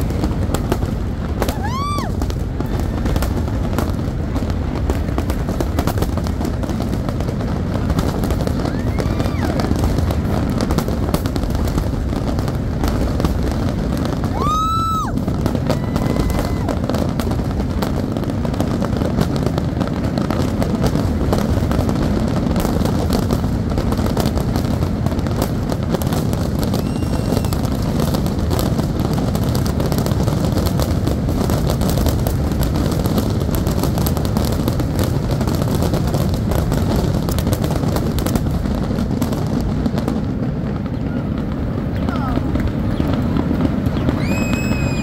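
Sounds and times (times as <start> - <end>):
fireworks booming and crackling: 0.0 - 45.0.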